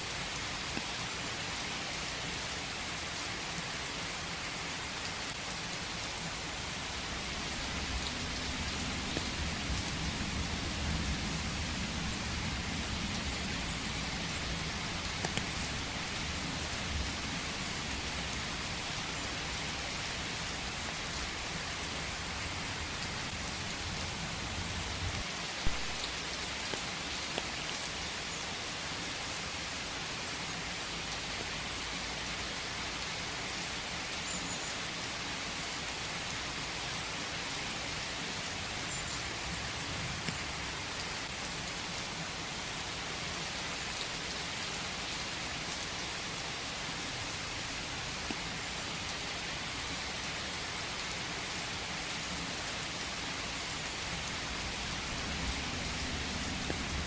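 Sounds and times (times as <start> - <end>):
raindrops ticking close by: 0.0 - 34.9, 36.2 - 57.0
steady rain falling: 0.0 - 57.0.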